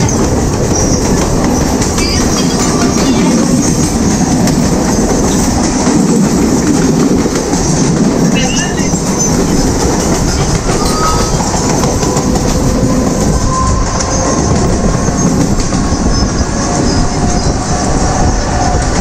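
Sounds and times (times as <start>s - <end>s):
clickety-clack over rail joints: 0.0s - 19.0s
train wheels rumbling on rails: 0.0s - 19.0s.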